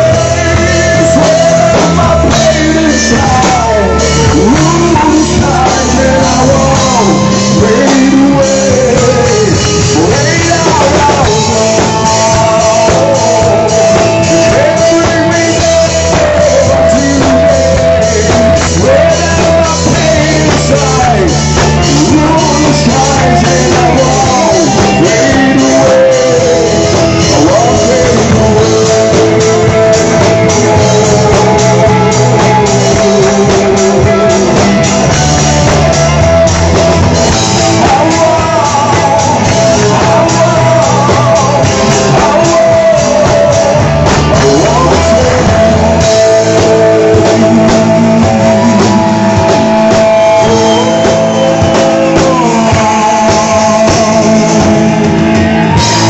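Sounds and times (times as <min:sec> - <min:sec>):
live rock band playing: 0:00.0 - 0:56.0
man singing: 0:00.0 - 0:56.0.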